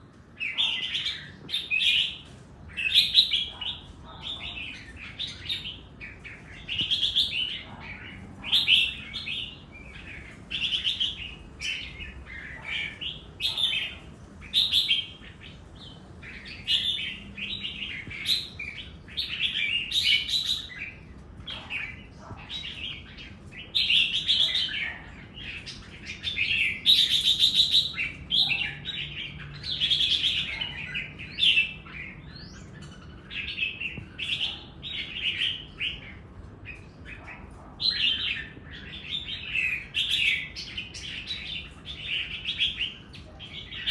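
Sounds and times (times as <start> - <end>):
bird singing warbled phrases: 0.0 - 43.9.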